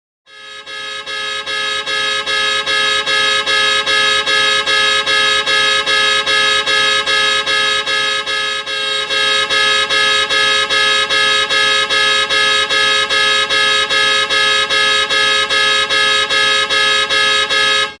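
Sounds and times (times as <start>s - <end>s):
car horn alarm beeping: 0.3s - 18.0s.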